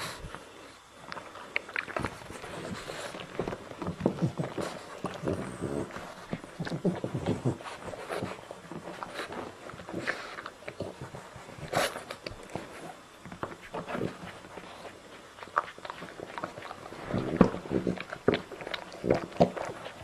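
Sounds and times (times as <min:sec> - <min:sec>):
dog licking puppy: 0:01.1 - 0:20.0.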